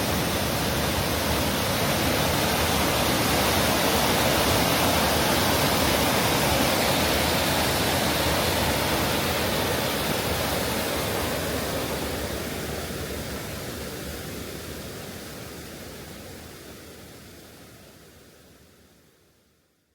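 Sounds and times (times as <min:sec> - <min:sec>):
stream water over cascade: 0:00.0 - 0:19.9.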